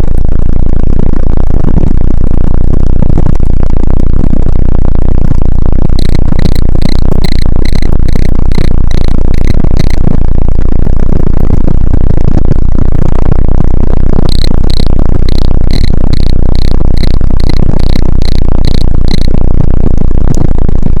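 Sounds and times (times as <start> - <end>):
loud low rumble: 0.0 - 21.0.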